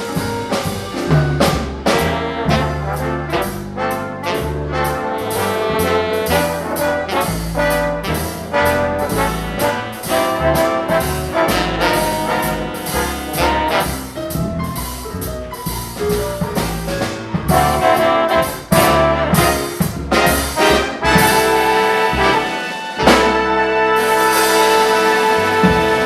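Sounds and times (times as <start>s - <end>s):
big band playing swing: 0.0s - 26.0s.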